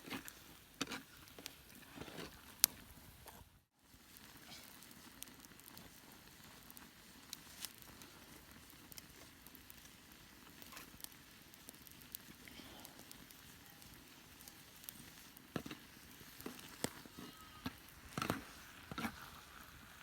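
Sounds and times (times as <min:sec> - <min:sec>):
food sizzling over fire: 0:00.0 - 0:20.0.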